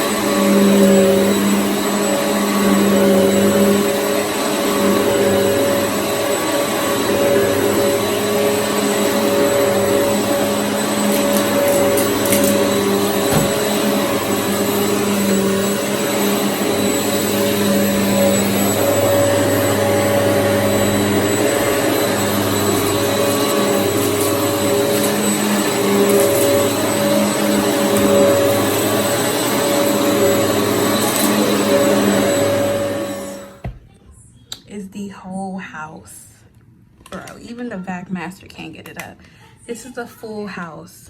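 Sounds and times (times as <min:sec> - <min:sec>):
vacuum cleaner running: 0:00.0 - 0:33.8.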